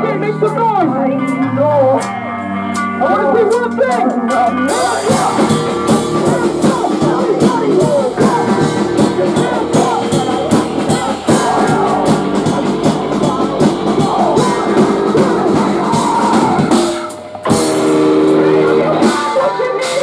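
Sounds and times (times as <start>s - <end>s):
drum kit: 0.0s - 20.0s
electric guitars: 0.0s - 20.0s
live rock band playing: 0.0s - 20.0s.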